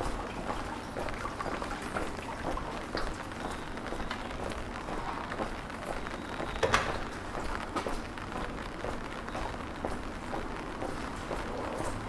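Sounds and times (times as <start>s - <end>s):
footsteps on wet cobblestones: 0.0s - 12.0s
light rain on wet street: 0.0s - 12.0s.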